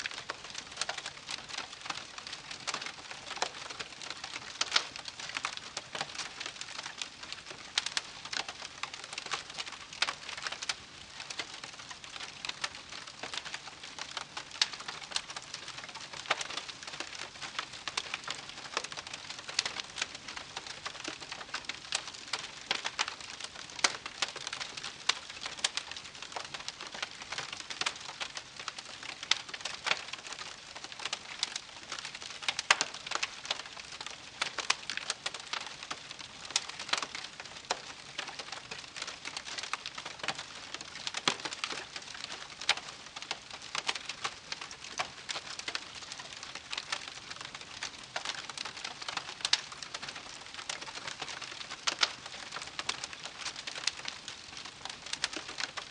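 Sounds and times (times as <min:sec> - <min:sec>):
campfire crackling: 0:00.0 - 0:55.9
soft steady hiss: 0:00.0 - 0:55.9.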